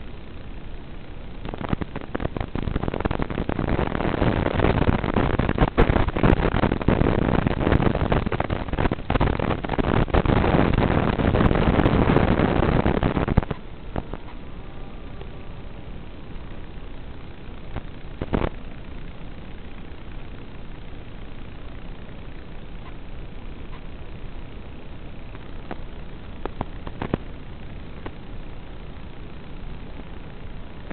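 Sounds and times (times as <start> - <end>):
static: 0.0 - 30.9.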